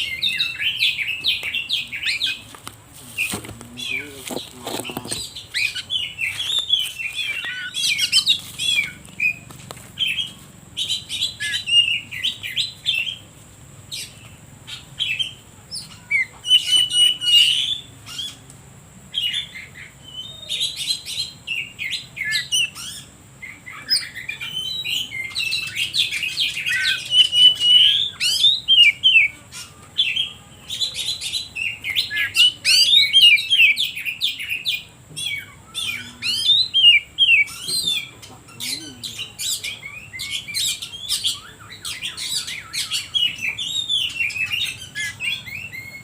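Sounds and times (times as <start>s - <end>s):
bird singing whistles and trills: 0.0s - 2.4s, 3.2s - 13.3s, 14.0s - 18.4s, 19.1s - 46.0s.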